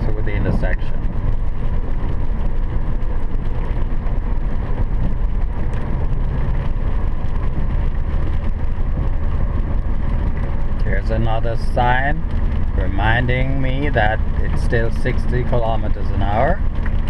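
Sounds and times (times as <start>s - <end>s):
car engine hum: 0.0s - 17.0s
road noise inside car: 0.0s - 17.0s.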